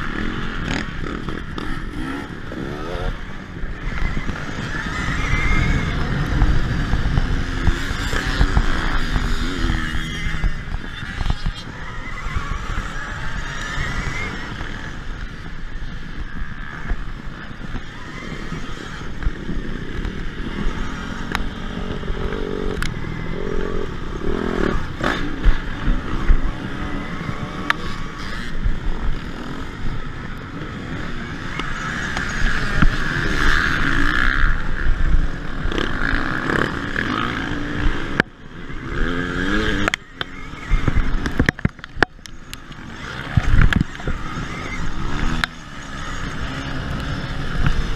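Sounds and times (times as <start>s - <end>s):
dirt bikes revving: 0.0s - 47.9s.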